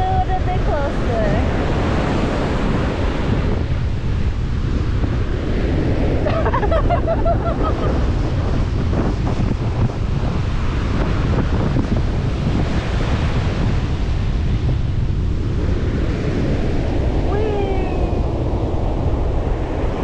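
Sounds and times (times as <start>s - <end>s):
ocean surf washing: 0.0s - 20.0s
wind buffeting microphone: 0.0s - 20.0s.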